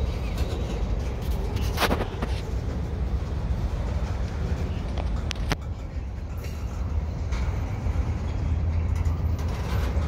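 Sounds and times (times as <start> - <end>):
freight train rumbling past: 0.0 - 10.0.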